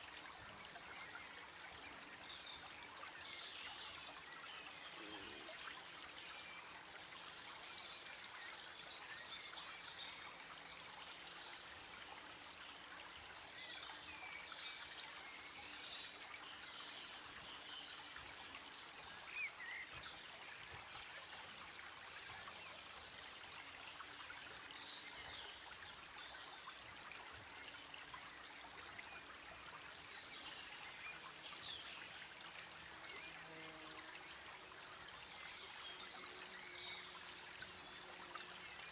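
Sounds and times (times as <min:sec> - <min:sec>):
faint steady hiss: 0:00.0 - 0:38.9.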